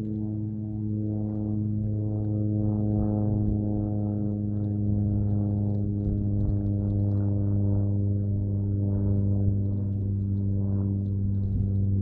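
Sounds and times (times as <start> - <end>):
airplane engine droning: 0.0 - 12.0.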